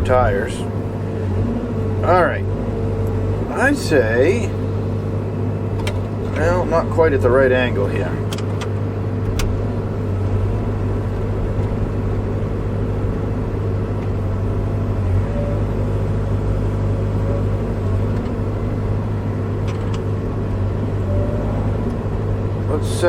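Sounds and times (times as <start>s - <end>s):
excavator diesel engine humming: 0.0s - 23.0s.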